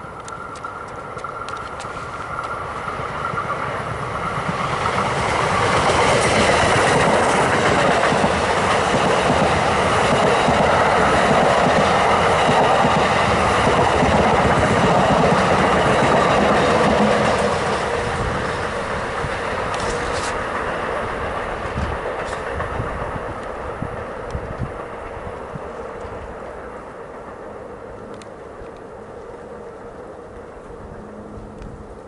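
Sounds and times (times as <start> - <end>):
train wheels rumbling and clattering: 0.0 - 32.0.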